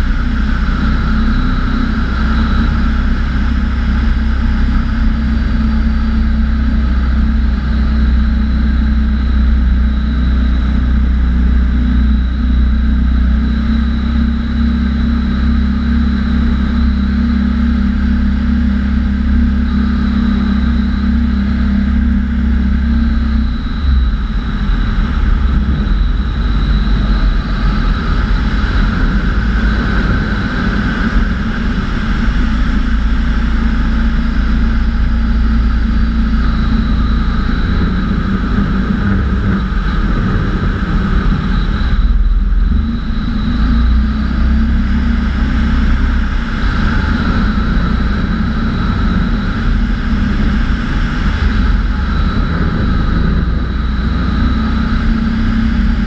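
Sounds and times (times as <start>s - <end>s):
microlight engine and propeller: 0.0s - 56.0s.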